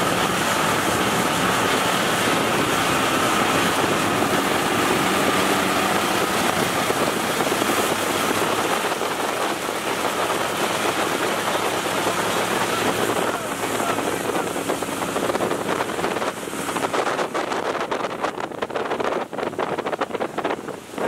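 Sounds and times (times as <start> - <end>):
water spray: 0.0 - 18.2
boat motor running: 0.0 - 21.0
wind on microphone: 0.0 - 21.0.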